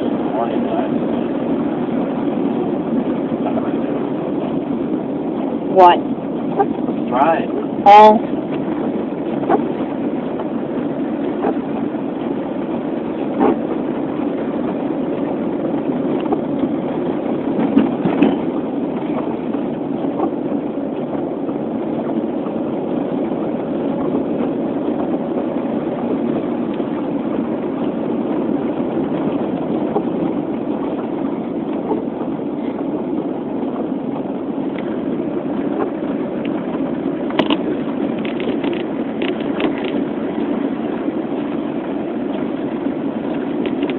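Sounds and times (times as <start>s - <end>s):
car road and engine noise: 0.0s - 43.9s.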